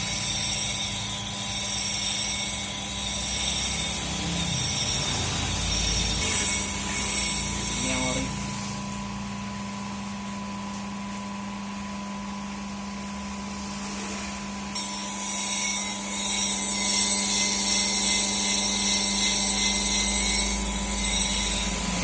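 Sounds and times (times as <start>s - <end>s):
sharpening machine motor hum: 0.0s - 11.1s, 12.9s - 22.0s.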